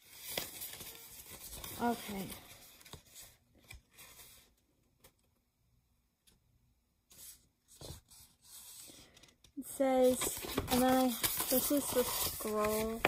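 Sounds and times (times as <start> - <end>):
paper rustles: 0.0 - 5.2, 7.1 - 13.0.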